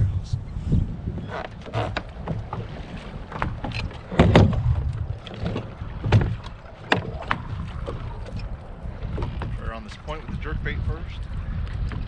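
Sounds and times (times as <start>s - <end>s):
boat engine rumbling wash: 0.0s - 12.0s
wind on microphone: 0.0s - 12.0s
hull slapping on waves: 0.8s - 12.0s.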